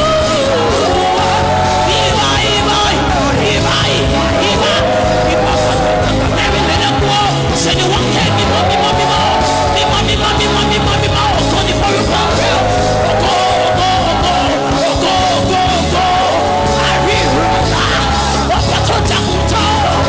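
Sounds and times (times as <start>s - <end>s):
band accompaniment: 0.0s - 20.0s
singers singing gospel: 0.0s - 20.0s.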